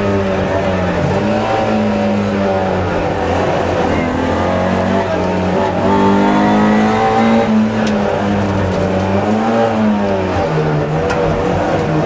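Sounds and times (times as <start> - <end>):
car engine under hard driving: 0.0 - 12.0.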